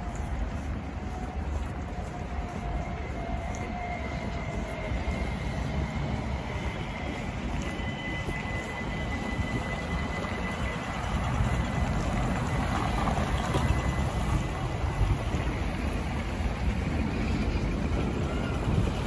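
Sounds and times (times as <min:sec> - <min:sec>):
high steady whine: 0:00.0 - 0:19.0
traffic: 0:00.0 - 0:19.0
tram rumbling: 0:00.0 - 0:19.0.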